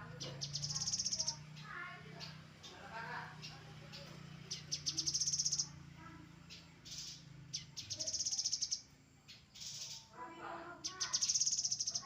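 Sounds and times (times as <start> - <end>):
bird singing high trills: 0.0 - 5.8, 6.4 - 10.1, 10.8 - 12.0.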